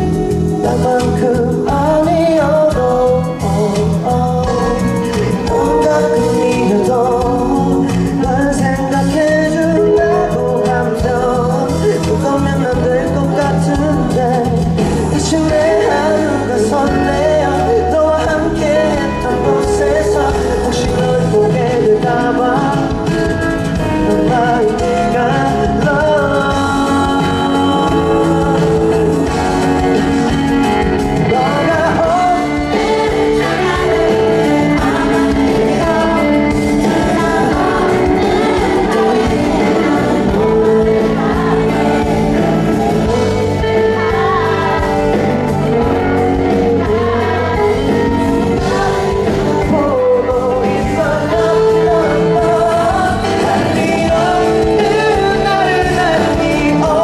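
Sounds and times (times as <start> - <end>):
live pop song with band: 0.0 - 57.0.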